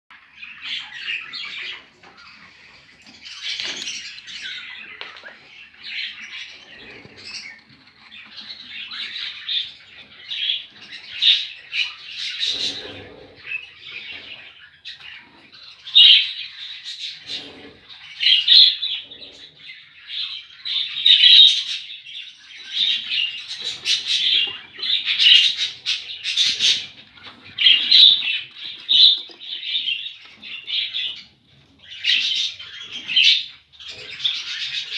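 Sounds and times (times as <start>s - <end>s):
budgerigars chirping: 0.2s - 34.9s.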